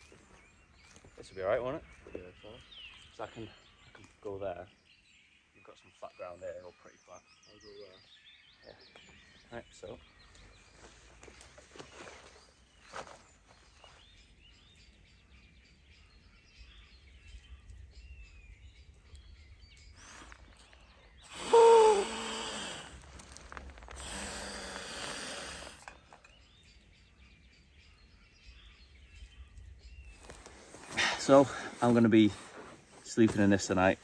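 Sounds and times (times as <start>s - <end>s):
birds chirping faintly: 0.0s - 34.0s.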